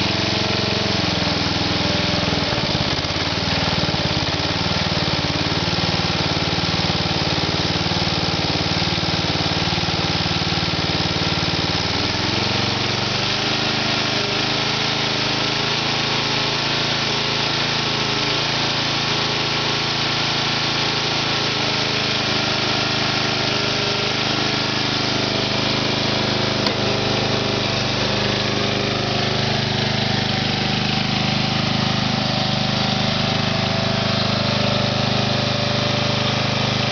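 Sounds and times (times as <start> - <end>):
lawn tractor engine running: 0.0 - 36.9.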